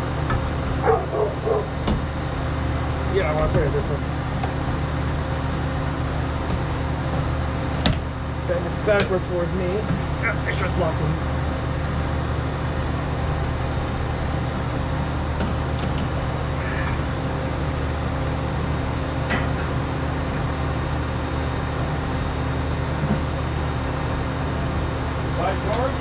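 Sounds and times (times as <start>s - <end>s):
forge rushing drone: 0.0s - 26.0s.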